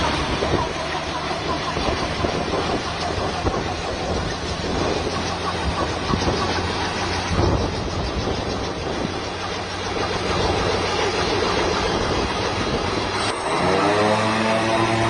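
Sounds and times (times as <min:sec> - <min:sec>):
helicopter engine rumbling: 0:00.0 - 0:15.0.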